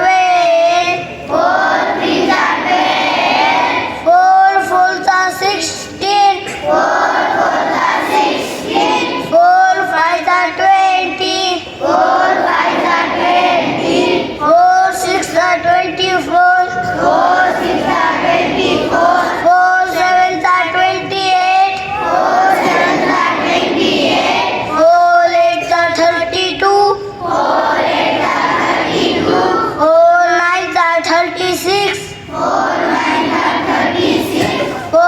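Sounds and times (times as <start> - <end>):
children singing: 0.0 - 30.4, 32.2 - 35.0.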